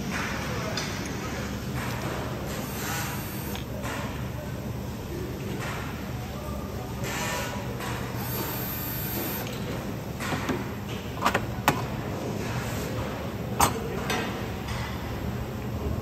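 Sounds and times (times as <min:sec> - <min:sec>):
workshop hum: 0:00.0 - 0:16.0.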